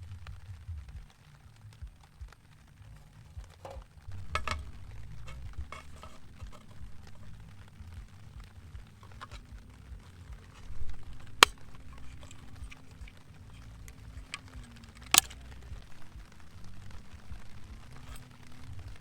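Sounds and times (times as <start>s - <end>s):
low steady rumble: 0.0s - 19.0s
sharp clicks: 0.0s - 19.0s.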